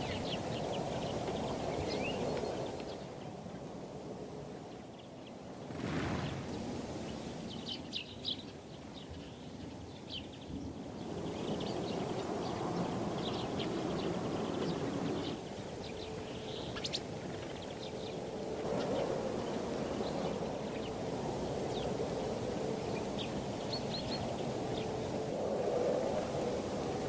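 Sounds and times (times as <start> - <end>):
small birds chirping: 0.0 - 3.6, 4.6 - 27.0
low outdoor background noise: 0.0 - 27.0.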